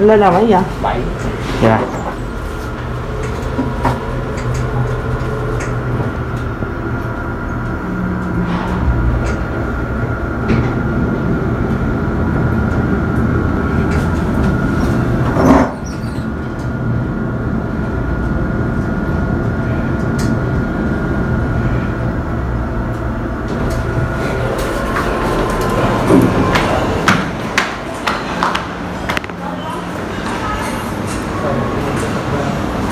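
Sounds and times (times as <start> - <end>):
elevator rumble: 0.0 - 32.9
faint elevator whine: 0.0 - 32.9.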